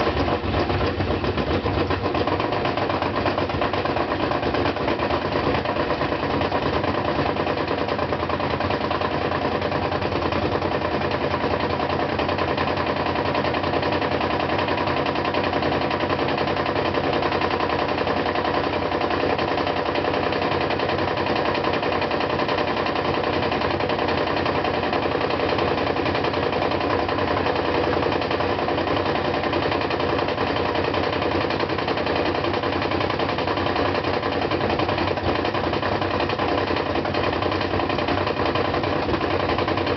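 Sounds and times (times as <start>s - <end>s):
washing machine knocking and rattling: 0.0s - 39.9s.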